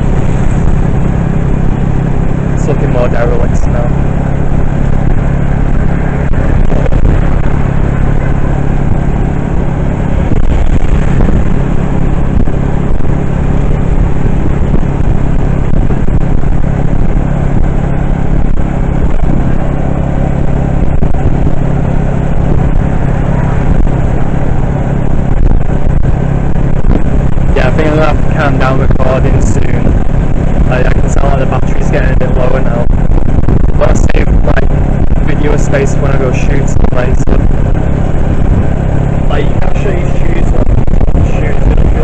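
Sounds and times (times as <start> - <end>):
road noise: 0.0 - 42.0
vehicle engine hum: 0.0 - 42.0.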